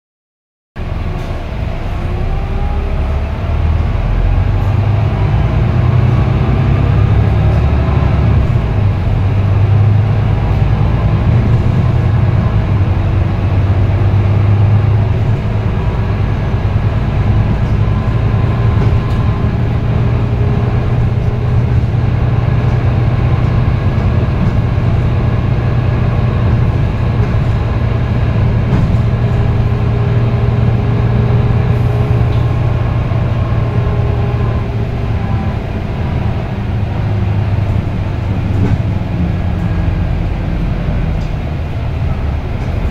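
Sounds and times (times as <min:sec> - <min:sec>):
bus diesel engine drone: 0:00.8 - 0:42.9.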